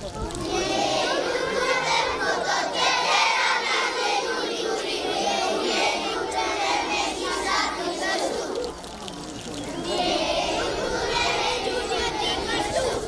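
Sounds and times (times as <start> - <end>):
children singing together: 0.4 - 8.7, 9.6 - 13.0.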